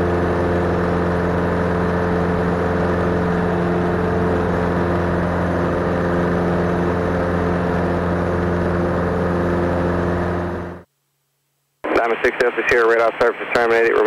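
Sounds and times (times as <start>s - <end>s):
airplane engine and propeller drone: 0.0s - 10.9s, 11.8s - 14.0s.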